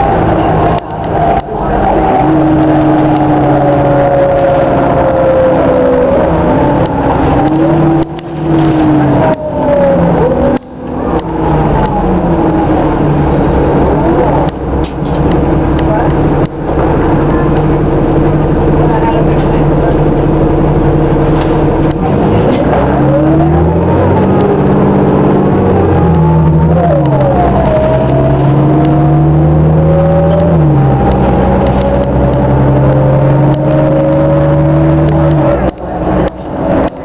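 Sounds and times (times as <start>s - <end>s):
bus engine shifting: 0.0s - 37.0s
transmission whine: 0.0s - 37.0s.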